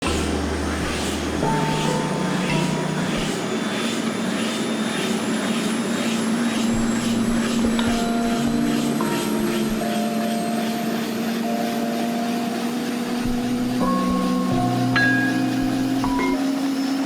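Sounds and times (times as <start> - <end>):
helicopter rotor whooshing: 0.0 - 17.0.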